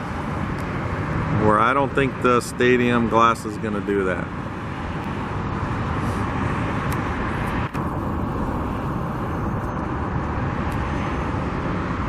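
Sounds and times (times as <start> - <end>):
freeway traffic roar: 0.0 - 12.0.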